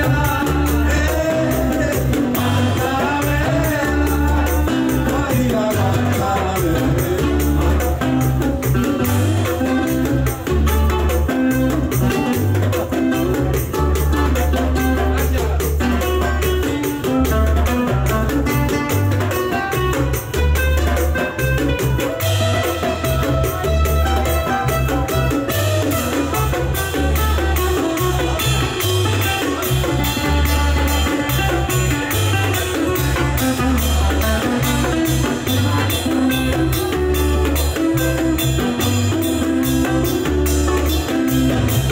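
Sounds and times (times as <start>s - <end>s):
acoustic guitar: 0.0s - 41.9s
electric bass lines: 0.0s - 41.9s
hand-played drums: 0.0s - 41.9s.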